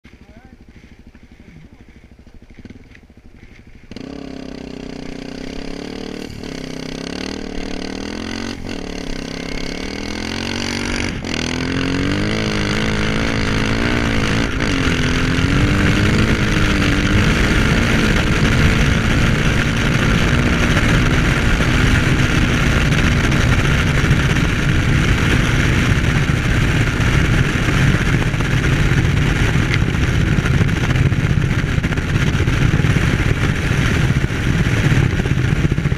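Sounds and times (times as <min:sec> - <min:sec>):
dirt bike engine revving: 0:00.1 - 0:35.9
wind noise: 0:05.4 - 0:35.9.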